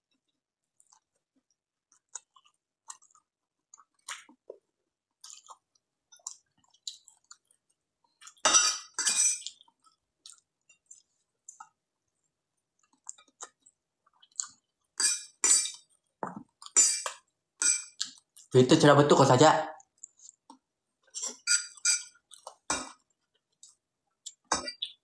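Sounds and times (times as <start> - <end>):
person chewing noodles: 0.0 - 8.4, 9.4 - 18.5, 19.8 - 25.0.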